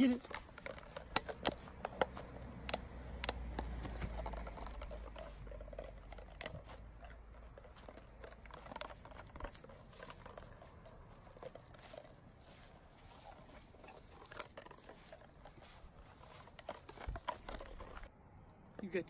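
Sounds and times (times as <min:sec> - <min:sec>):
rock rattling in plastic bottle: 0:00.0 - 0:18.1.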